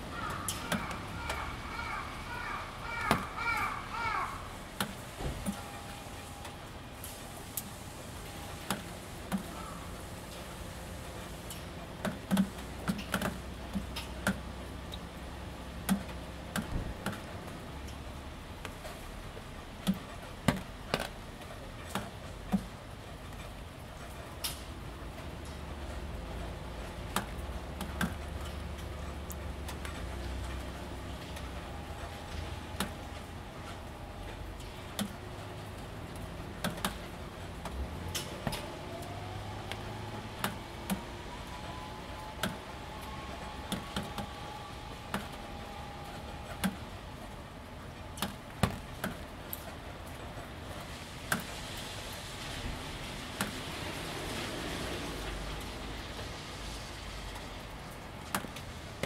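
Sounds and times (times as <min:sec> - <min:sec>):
raindrops ticking on metal roof: 0:00.0 - 0:59.0
soft rain patter: 0:00.0 - 0:59.0.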